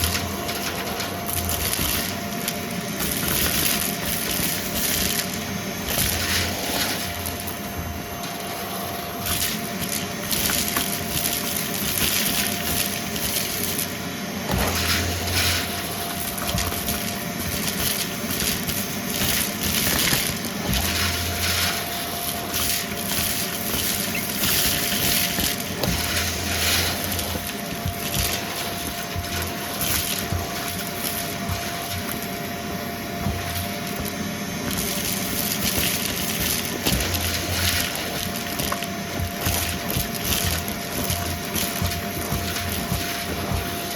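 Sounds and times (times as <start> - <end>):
debris crunching in vacuum: 0.0 - 43.9
vacuum cleaner running: 0.0 - 43.9.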